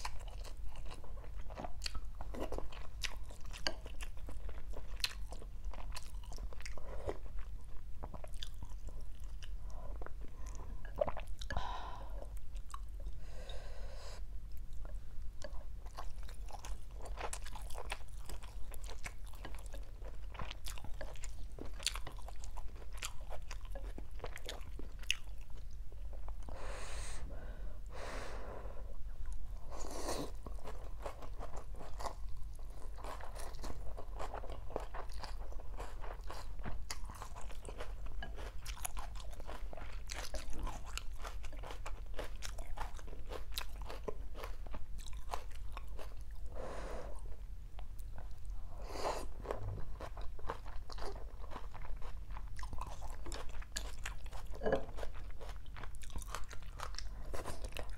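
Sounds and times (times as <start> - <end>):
chewing crunchy food: 0.0 - 11.6, 12.2 - 13.2, 14.5 - 26.6, 29.2 - 46.6, 49.2 - 57.9.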